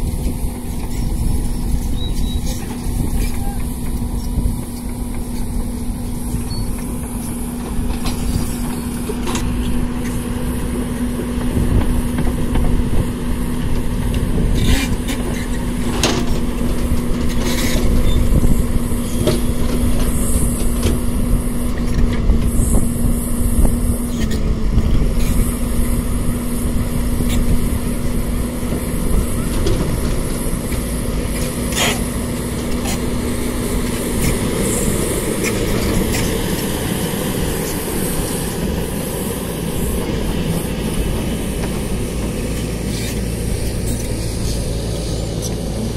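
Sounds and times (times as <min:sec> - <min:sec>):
excavator diesel engine rumbling: 0:00.0 - 0:45.9.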